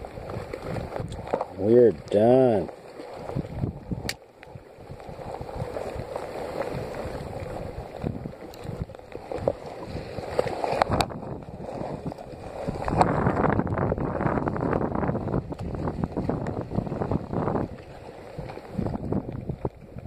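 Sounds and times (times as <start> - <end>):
wind on microphone: 0.0 - 2.1, 3.1 - 20.0
water gurgling and splashing: 0.0 - 20.0.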